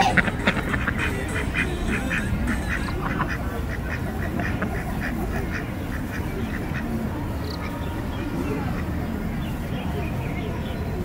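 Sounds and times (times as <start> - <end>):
ducks quacking: 0.0 - 11.0
steady low rumble: 0.0 - 11.0.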